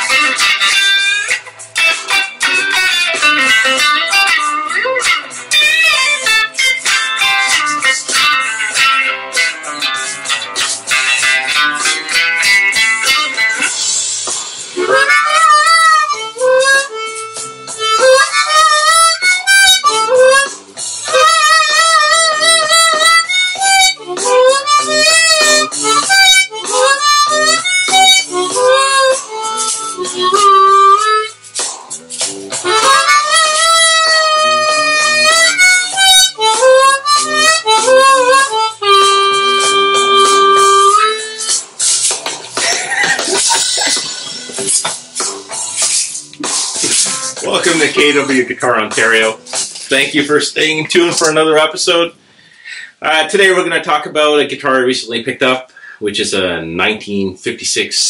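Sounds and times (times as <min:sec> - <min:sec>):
harmonica playing bent notes: 0:00.0 - 0:51.4.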